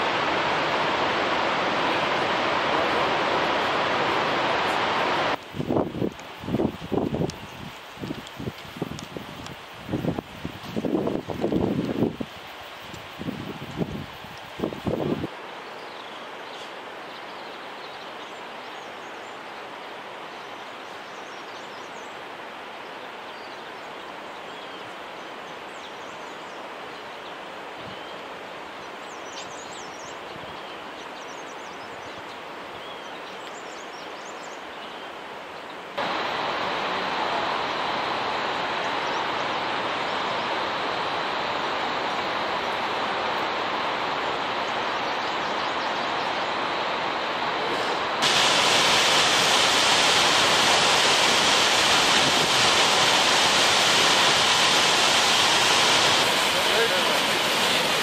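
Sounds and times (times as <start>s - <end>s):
rushing mountain valley ambience: 0.0s - 58.0s.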